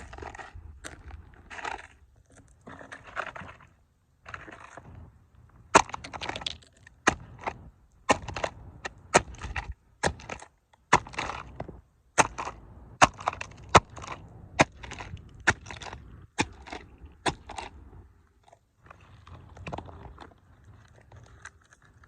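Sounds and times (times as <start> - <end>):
toy cars crunching under boots: 0.0 - 22.0.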